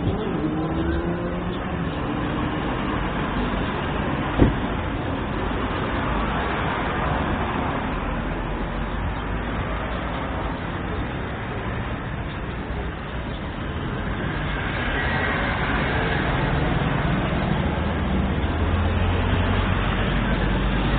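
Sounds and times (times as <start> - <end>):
street traffic: 0.0 - 20.9.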